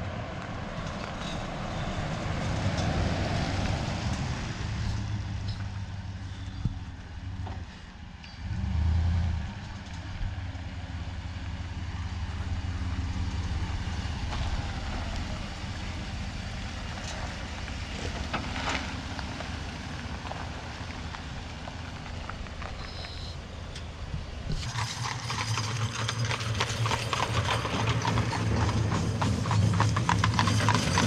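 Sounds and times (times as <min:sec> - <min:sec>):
truck engine and tyre rumble: 0:00.0 - 0:31.0.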